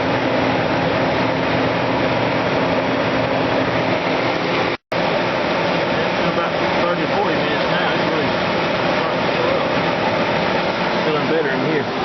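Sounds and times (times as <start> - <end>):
dehumidifier fan rush: 0.0 - 12.0
low compressor hum: 0.0 - 12.0.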